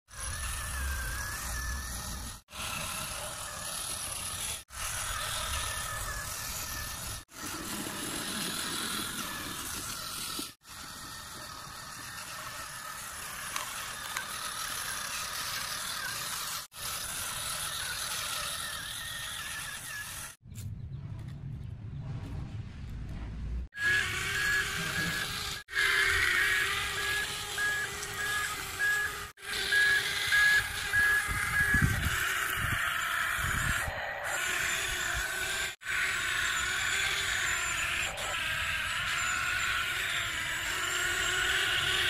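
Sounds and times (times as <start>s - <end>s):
toy vehicle motors whirring: 0.1s - 20.4s, 23.8s - 42.0s.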